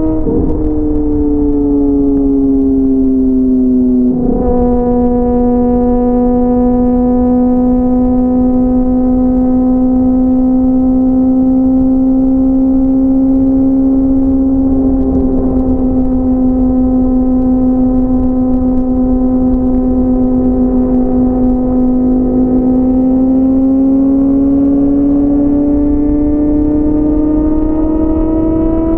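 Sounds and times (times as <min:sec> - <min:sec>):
low wind rumble: 0:00.0 - 0:28.9
motorcycle engine at high revs: 0:00.0 - 0:28.9.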